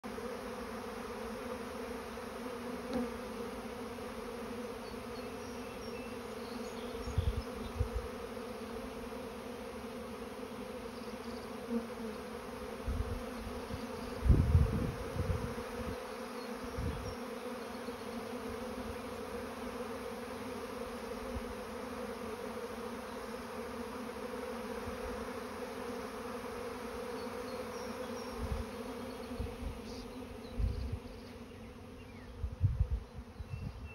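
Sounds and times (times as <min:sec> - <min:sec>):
bees humming: 0:00.0 - 0:33.9.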